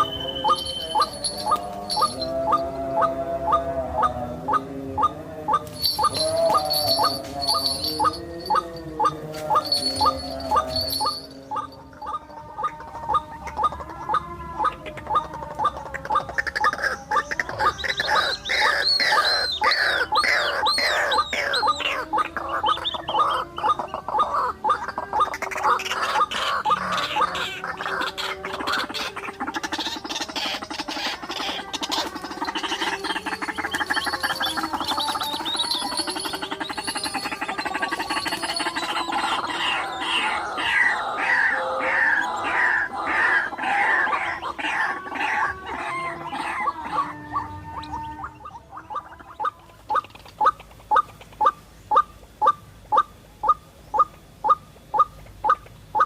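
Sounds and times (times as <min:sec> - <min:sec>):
waterhens calling: 0:00.0 - 0:56.0.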